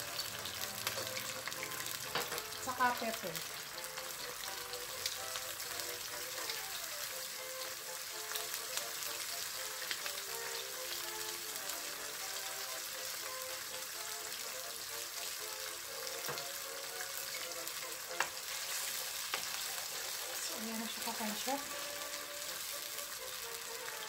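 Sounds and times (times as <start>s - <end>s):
sauce sizzling in a wok: 0.0s - 24.0s
soft background music: 0.0s - 24.0s.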